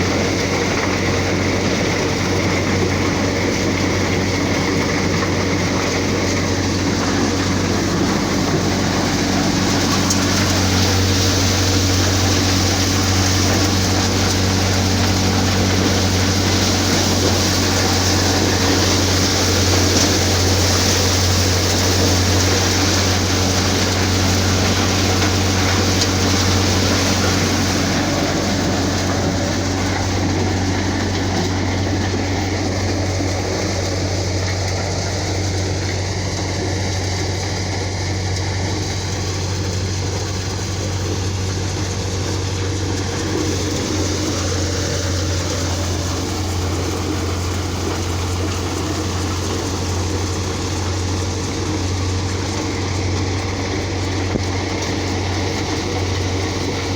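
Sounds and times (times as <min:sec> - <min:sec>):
diesel engine hum: 0:00.0 - 0:56.9
thresher machine noise and hiss: 0:00.0 - 0:56.9.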